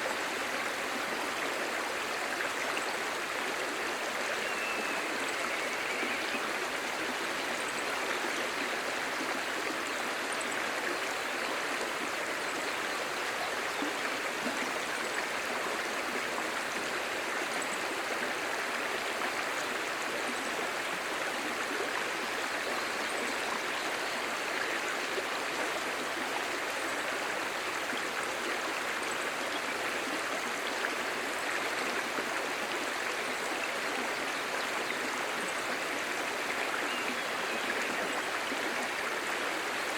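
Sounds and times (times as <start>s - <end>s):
stream murmuring: 0.0s - 39.9s.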